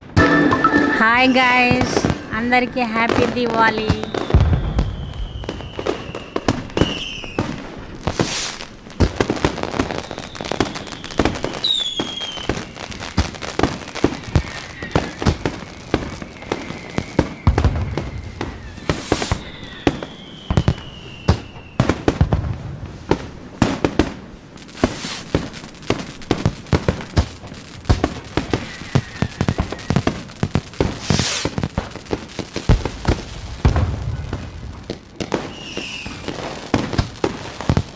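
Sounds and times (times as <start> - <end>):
firework whistles: 0.0 - 8.8, 9.5 - 22.1, 24.6 - 37.7
fireworks crackling and popping: 0.0 - 37.9
loud firework bangs: 0.0 - 37.9.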